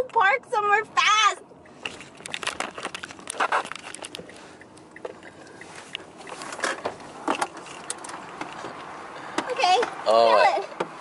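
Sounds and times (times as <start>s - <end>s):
car running noise: 0.0s - 11.0s.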